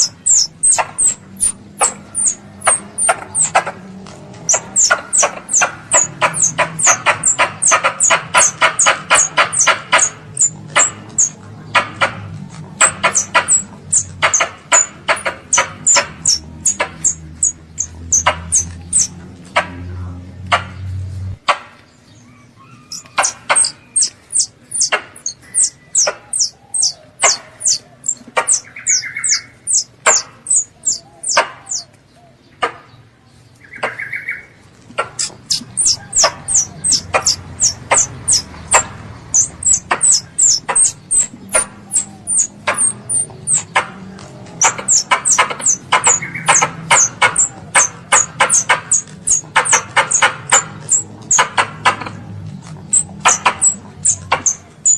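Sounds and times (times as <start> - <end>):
squirrel chipping calls: 0.0 - 33.0, 33.6 - 54.9.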